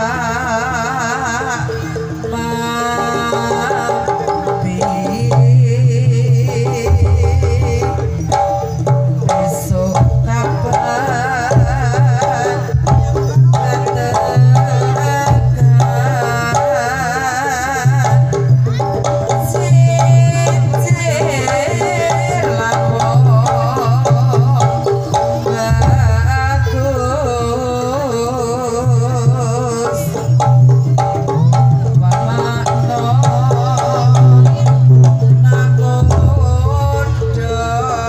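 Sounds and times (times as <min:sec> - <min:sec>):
hand drums busy rhythm: 0:00.0 - 0:38.0.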